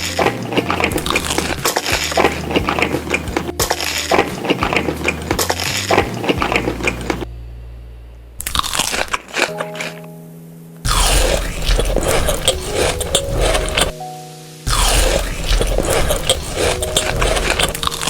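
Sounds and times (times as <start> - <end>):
crunchy chewing and biting: 0.0 - 7.3, 8.4 - 10.0, 10.9 - 14.0, 14.7 - 18.0.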